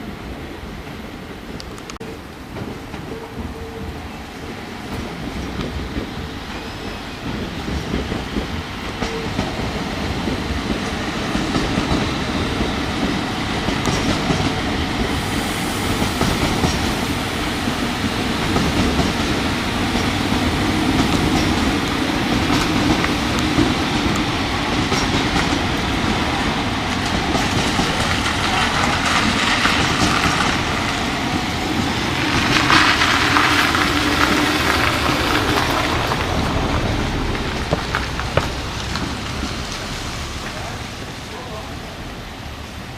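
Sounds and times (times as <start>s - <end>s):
train running past on rails: 0.0s - 42.9s
rail clicks: 0.7s - 42.9s.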